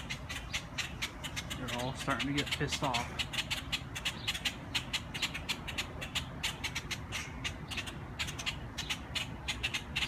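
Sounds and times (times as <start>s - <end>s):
birds giving alarm calls: 0.0s - 10.0s.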